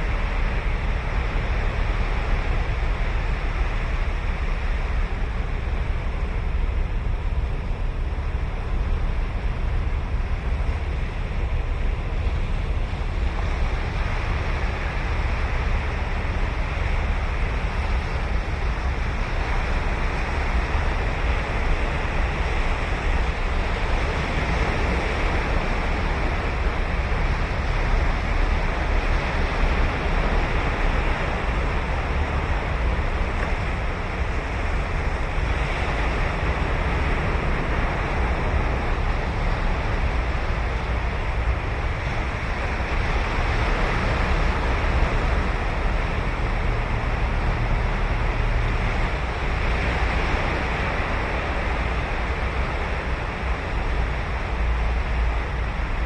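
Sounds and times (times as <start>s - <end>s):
ocean waves breaking on beach: 0.0s - 56.0s
wind rumble on microphone: 0.0s - 56.0s.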